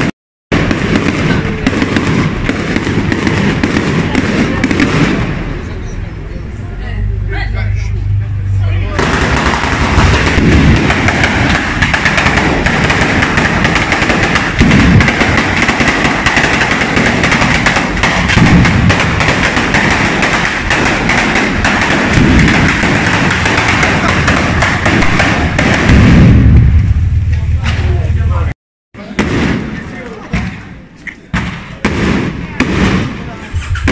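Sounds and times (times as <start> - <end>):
heavy firecracker bangs: 0.0 - 6.0, 8.9 - 28.2, 29.0 - 33.9
firecrackers crackling: 0.0 - 6.1, 8.3 - 33.9.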